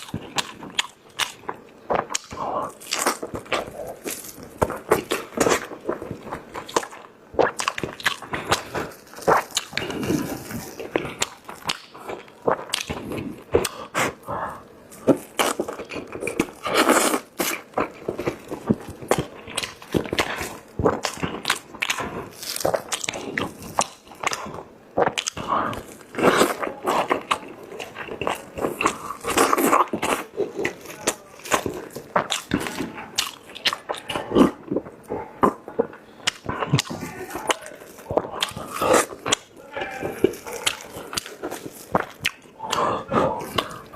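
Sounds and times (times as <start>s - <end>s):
chewing and lip-smacking: 0.0s - 43.9s.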